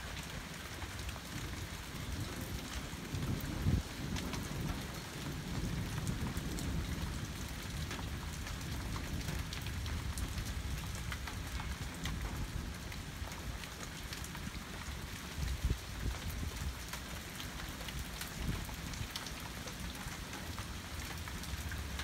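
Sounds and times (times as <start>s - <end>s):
steady rain: 0.0s - 22.0s
raindrops tapping: 2.1s - 22.0s.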